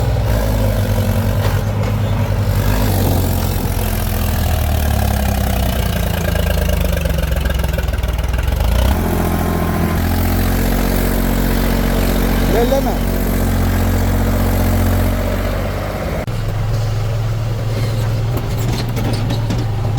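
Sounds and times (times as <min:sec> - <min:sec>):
heavy diesel engine running: 0:00.0 - 0:19.9.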